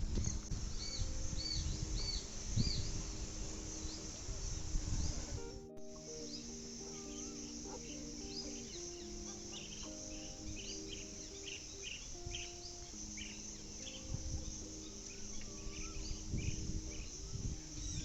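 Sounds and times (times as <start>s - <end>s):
insects droning: 0.0s - 18.0s
small birds chirping: 0.0s - 18.0s
soft background music: 0.0s - 18.0s.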